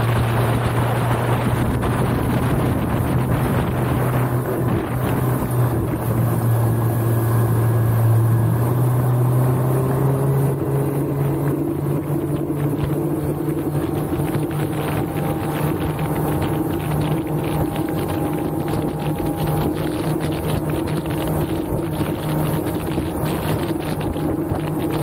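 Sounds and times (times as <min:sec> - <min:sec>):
outboard motor running: 0:00.0 - 0:25.0
water rushing past hull: 0:00.0 - 0:25.0
wind on microphone: 0:00.0 - 0:25.0.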